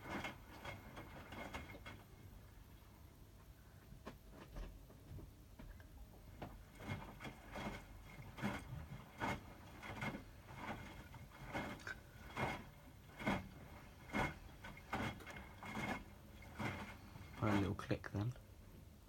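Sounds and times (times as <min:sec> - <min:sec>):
washing machine drum tumbling laundry: 0:00.0 - 0:02.7, 0:04.0 - 0:18.3.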